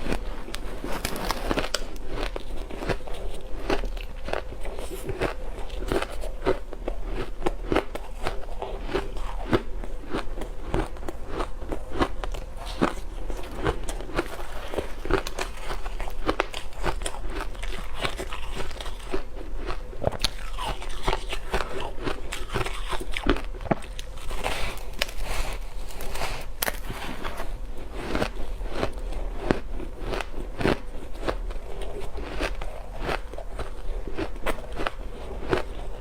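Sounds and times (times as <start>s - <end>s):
ice being chewed: 0.0s - 36.0s.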